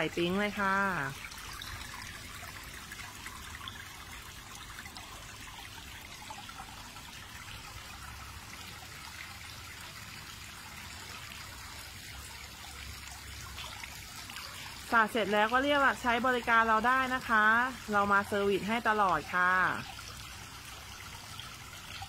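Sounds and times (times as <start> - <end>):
water trickling over pool edge: 0.0 - 22.0.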